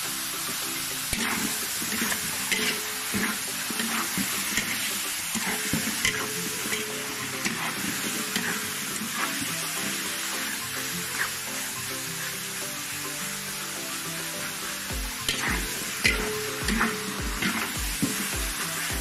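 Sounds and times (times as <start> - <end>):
food sizzling in hot oil: 0.0 - 19.0
spatula scraping a pan: 1.1 - 12.9, 15.2 - 19.0.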